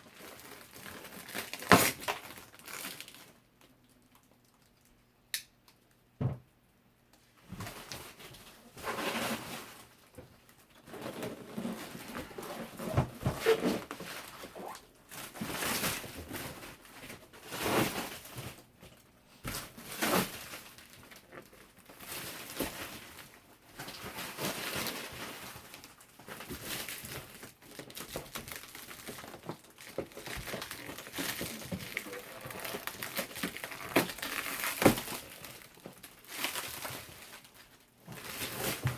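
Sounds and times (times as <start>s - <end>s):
packaging crinkling and rustling: 0.0s - 4.9s, 7.6s - 38.9s.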